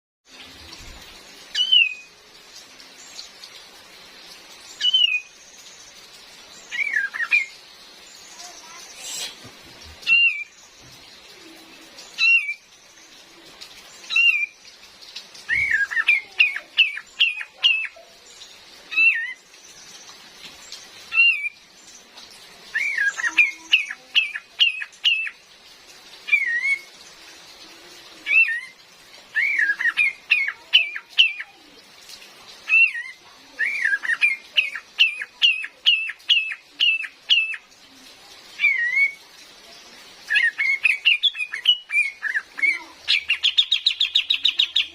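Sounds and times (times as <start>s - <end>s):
rain hiss: 0.2s - 44.9s.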